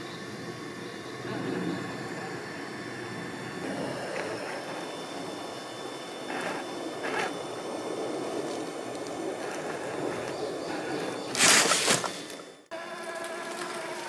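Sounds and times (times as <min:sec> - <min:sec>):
toy car electric motor running: 0:00.0 - 0:14.0.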